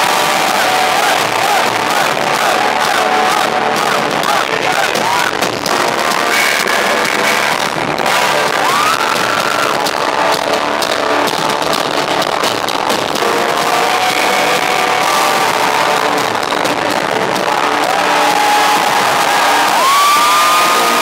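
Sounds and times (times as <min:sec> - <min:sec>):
distorted electric guitars: 0:00.0 - 0:21.0
pounding drums: 0:00.0 - 0:21.0.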